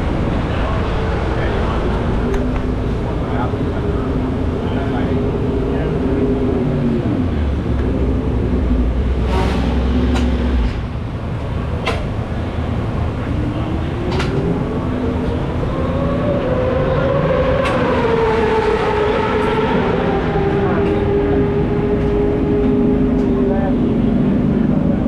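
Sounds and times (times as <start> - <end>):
motorcycle engines running: 0.0 - 25.0.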